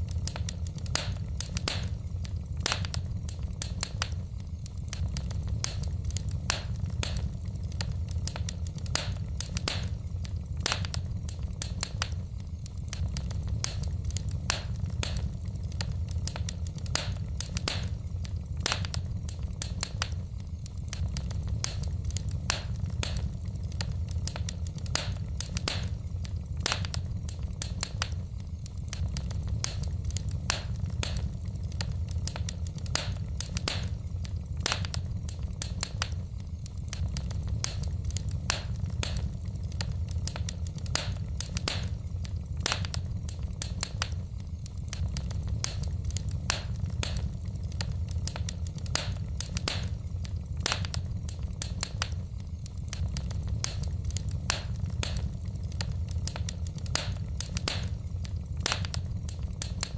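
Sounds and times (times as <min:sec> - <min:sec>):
fire rumbling: 0:00.0 - 0:59.9
logs crackling and popping: 0:00.0 - 0:59.9.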